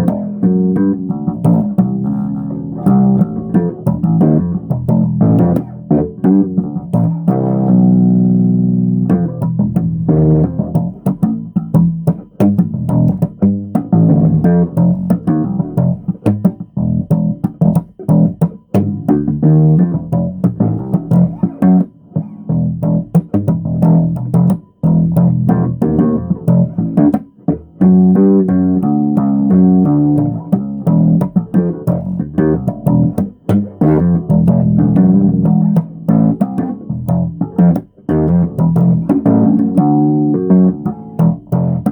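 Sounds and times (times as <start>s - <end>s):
bass guitar plucked notes: 0.0s - 41.9s.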